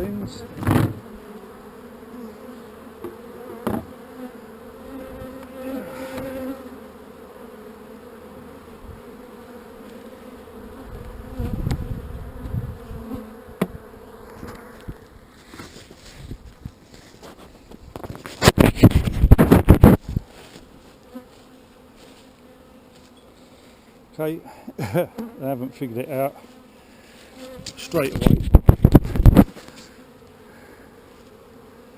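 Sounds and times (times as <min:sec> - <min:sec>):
honeybees buzzing: 0:00.0 - 0:31.9.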